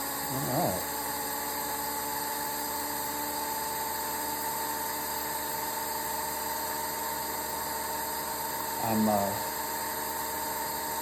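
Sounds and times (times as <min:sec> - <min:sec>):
model jet engine whine: 0:00.0 - 0:11.0.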